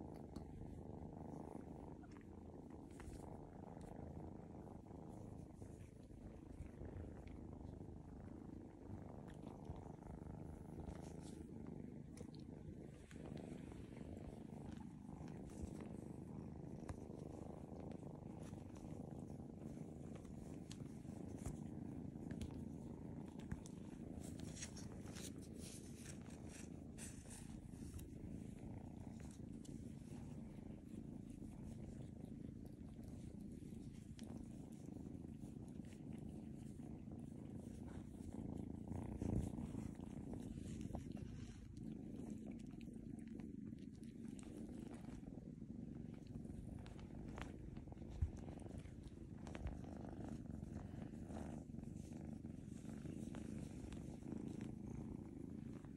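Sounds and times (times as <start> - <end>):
kitten purring: 0.0 - 55.9.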